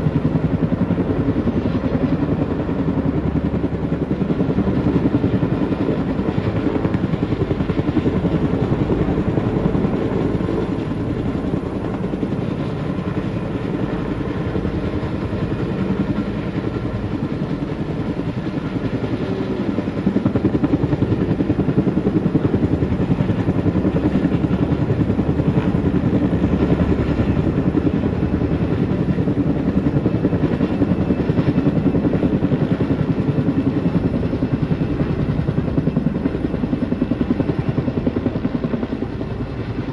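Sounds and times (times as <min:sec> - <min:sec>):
helicopter rotors beating: 0:00.0 - 0:39.9.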